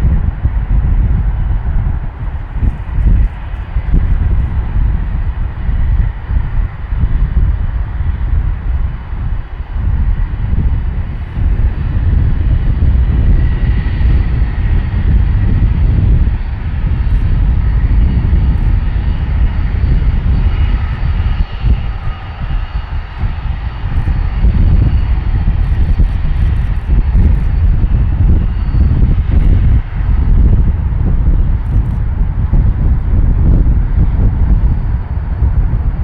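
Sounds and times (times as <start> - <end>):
jet engines roaring: 0.0 - 36.0.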